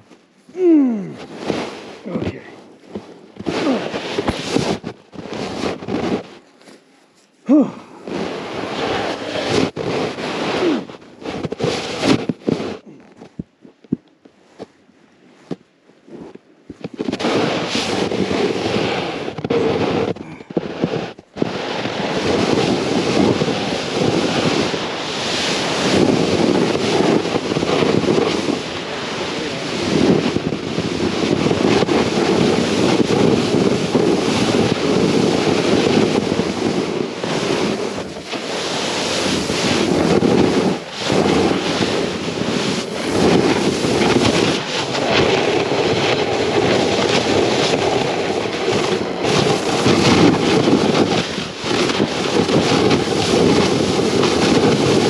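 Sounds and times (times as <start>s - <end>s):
wind on microphone: 0.0s - 6.8s, 7.4s - 55.0s
snowboard scraping through snow: 0.0s - 55.0s.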